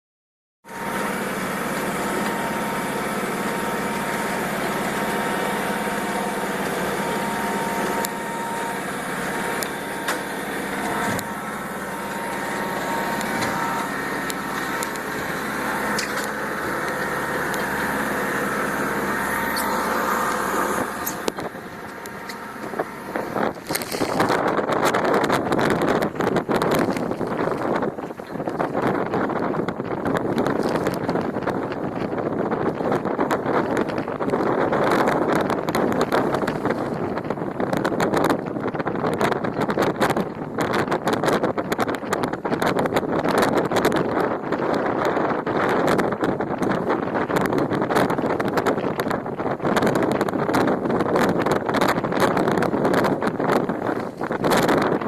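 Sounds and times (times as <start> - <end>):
boat engine running: 0.6 - 55.0
wind and water noise: 0.6 - 55.0
wind buffeting microphone: 0.7 - 55.0.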